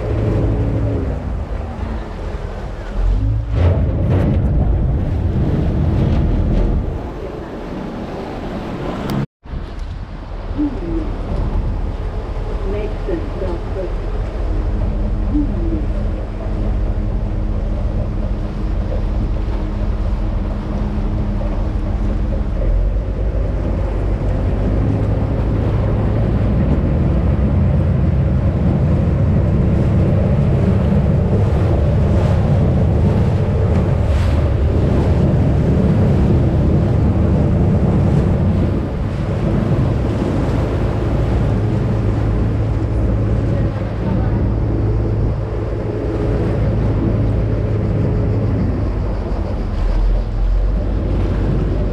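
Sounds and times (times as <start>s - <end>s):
boat engine hum: 0.0s - 51.9s
water rushing past hull: 0.0s - 51.9s
wind buffeting microphone: 0.0s - 51.9s.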